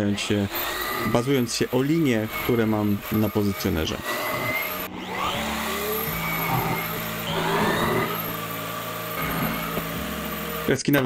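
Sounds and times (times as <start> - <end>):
dowel drill motor hum: 0.0 - 11.0
dust extractor running: 0.0 - 11.0.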